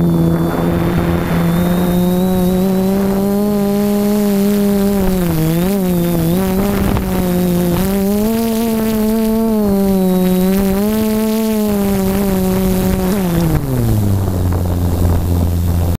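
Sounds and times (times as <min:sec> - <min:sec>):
electric motor and propeller whine: 0:00.0 - 0:16.0
wind rushing: 0:00.0 - 0:16.0.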